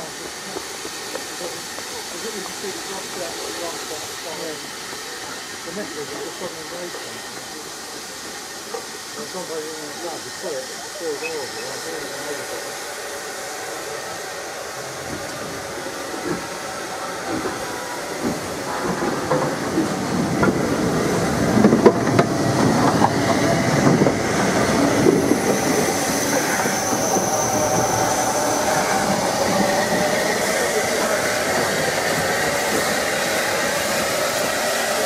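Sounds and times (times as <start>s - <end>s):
train wheels clicking over rail joints: 0.0s - 9.5s, 14.6s - 35.0s.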